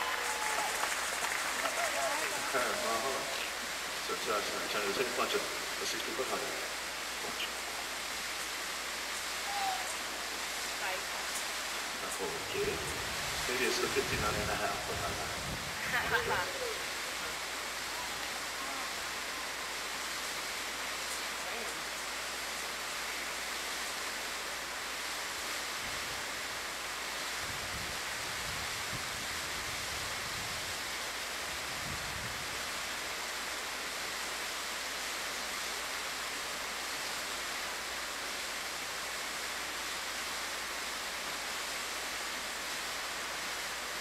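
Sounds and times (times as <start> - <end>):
waterfall pouring into pool: 0.0 - 44.0.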